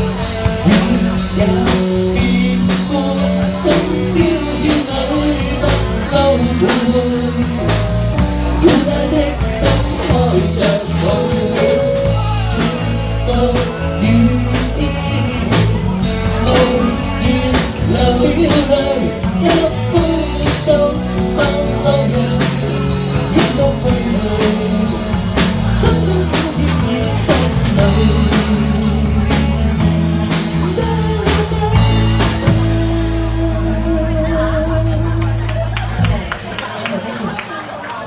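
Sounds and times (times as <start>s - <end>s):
person singing: 0.0s - 36.2s
drum kit beat: 0.0s - 36.5s
bass guitar: 0.0s - 36.9s
band playing pop-rock: 0.0s - 38.0s.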